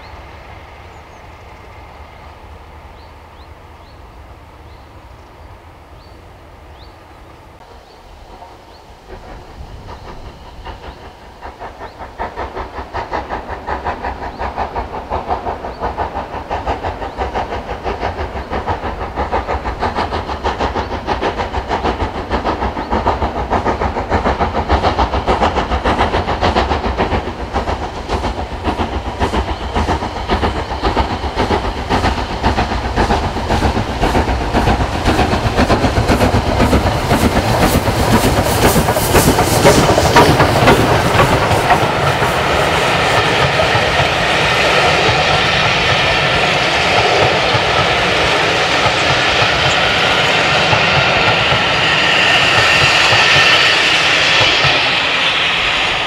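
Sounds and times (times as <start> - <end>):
steam locomotive exhaust beats: 0.0 - 56.0
train coaches rolling past: 0.0 - 56.0.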